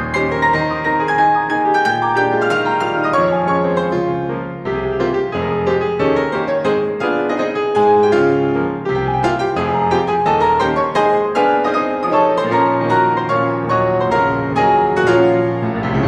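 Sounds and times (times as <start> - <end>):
solo piano melody: 0.0 - 16.0.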